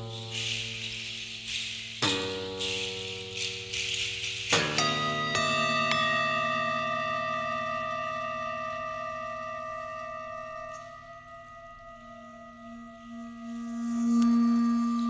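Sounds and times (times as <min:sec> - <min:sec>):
ringing bowl tones: 0:00.0 - 0:15.0
singing bowls struck: 0:00.0 - 0:15.0.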